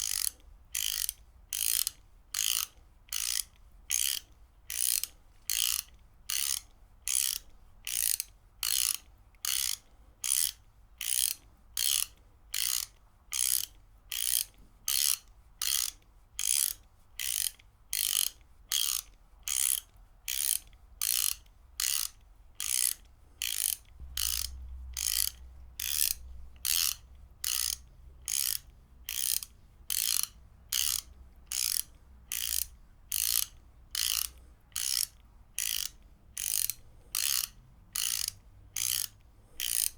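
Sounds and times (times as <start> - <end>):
ratchet wrench clicking: 0.0 - 39.9.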